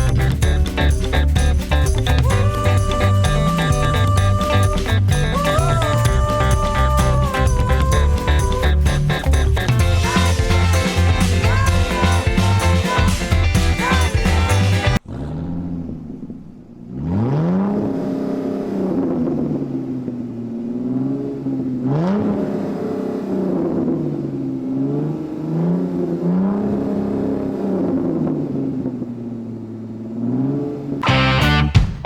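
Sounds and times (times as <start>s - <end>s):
motorcycle engine revving: 0.0s - 29.1s.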